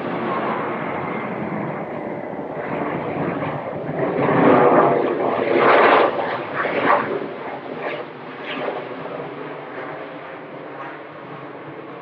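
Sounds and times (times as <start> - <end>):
jet airliner rolling on runway: 0.0 - 12.0.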